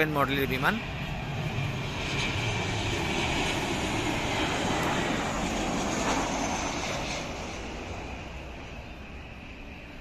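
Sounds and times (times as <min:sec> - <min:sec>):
jet airliner passing: 0:00.0 - 0:10.0.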